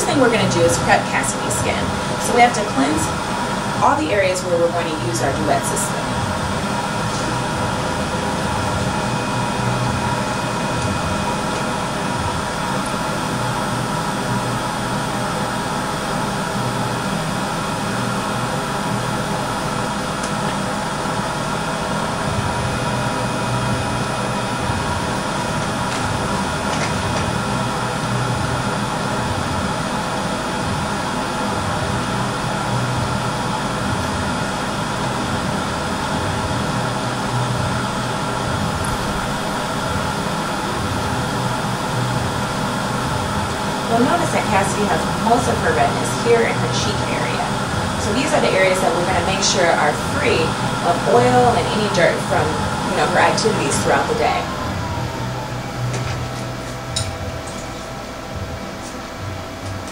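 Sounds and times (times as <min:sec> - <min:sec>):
mechanical drone: 0:00.0 - 0:59.9.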